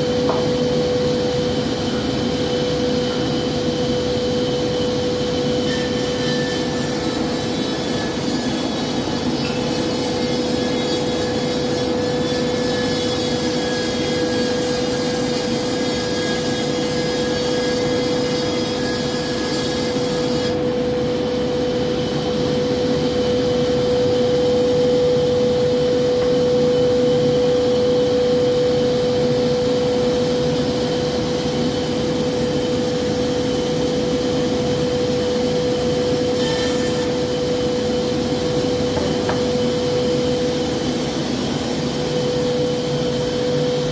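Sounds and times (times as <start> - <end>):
high machine whine: 0.0 - 43.9
woodworking machinery running: 0.0 - 43.9.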